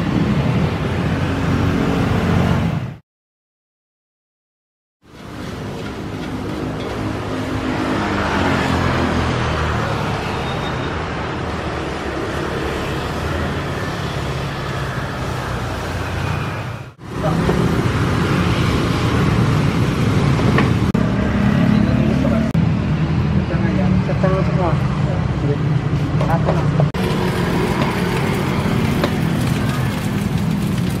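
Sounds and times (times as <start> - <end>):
road traffic with low rumble: 0.0 - 3.0, 5.0 - 31.0.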